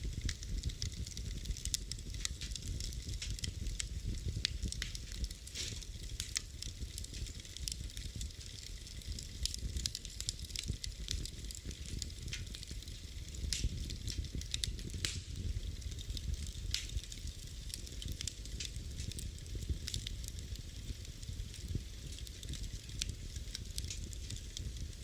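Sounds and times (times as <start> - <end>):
flames rumbling and hissing: 0.0 - 25.0
wood fire crackling and popping: 0.0 - 25.0.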